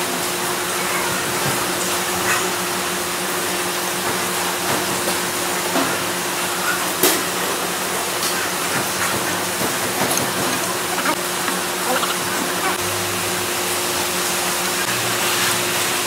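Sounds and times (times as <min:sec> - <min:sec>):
heavy rain on a metal roof: 0:00.0 - 0:16.0.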